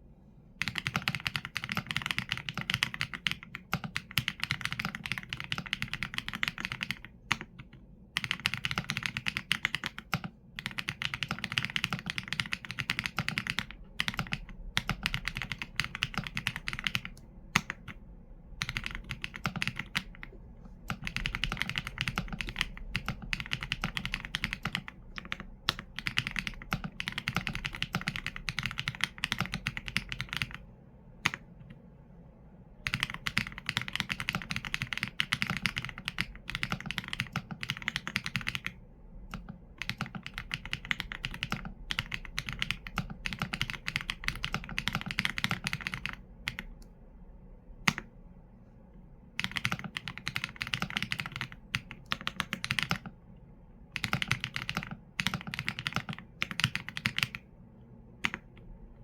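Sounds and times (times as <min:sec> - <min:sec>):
typing on a mechanical keyboard: 0:00.6 - 0:18.0, 0:18.6 - 0:20.3, 0:20.9 - 0:30.6, 0:32.8 - 0:46.8, 0:49.4 - 0:53.2, 0:53.9 - 0:57.5, 0:58.2 - 0:58.7.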